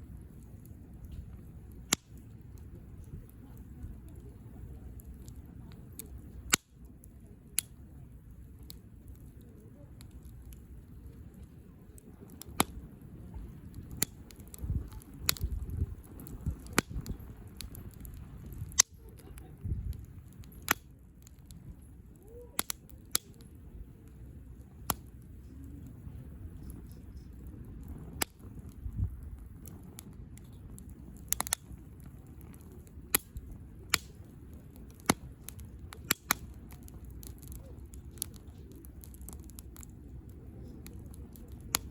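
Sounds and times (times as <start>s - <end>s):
campfire crackling and popping: 0.0s - 41.9s
steady low rumble: 0.0s - 41.9s.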